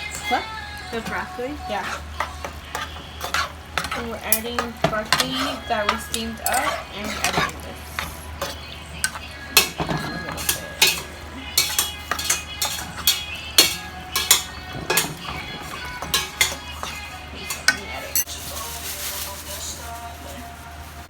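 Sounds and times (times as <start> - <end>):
utensil clinking against a pot: 0.0 - 18.6.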